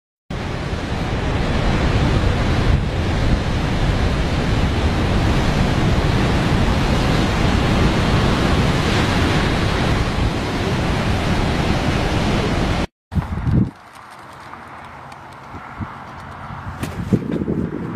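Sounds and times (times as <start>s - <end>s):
wind buffeting microphone: 0.4s - 17.9s.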